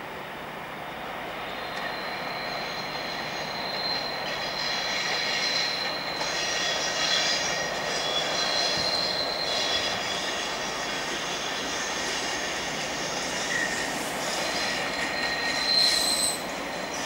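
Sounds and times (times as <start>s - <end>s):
diesel locomotives rumbling: 0.0s - 17.0s
wheel flanges squealing: 1.4s - 17.0s.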